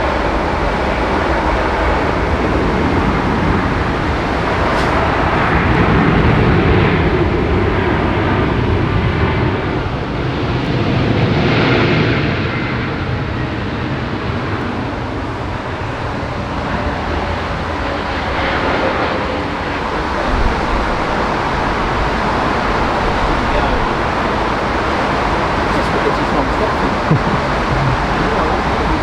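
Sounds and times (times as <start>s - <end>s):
jet airliner engine rush: 0.0s - 29.0s.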